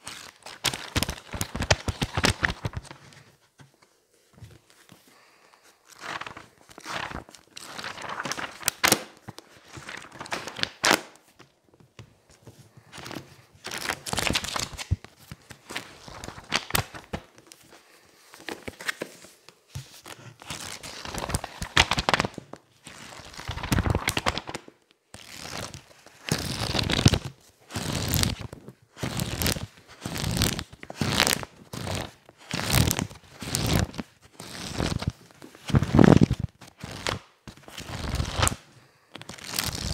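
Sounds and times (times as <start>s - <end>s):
book pages riffling: 0.0s - 11.5s, 12.3s - 38.6s, 39.2s - 39.9s.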